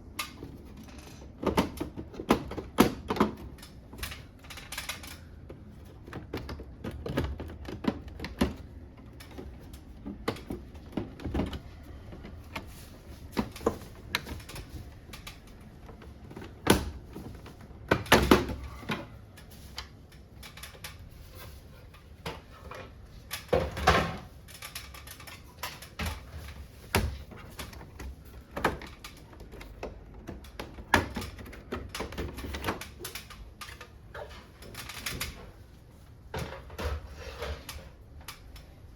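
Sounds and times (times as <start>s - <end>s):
plastic parts and tools clicking: 0.0s - 35.7s.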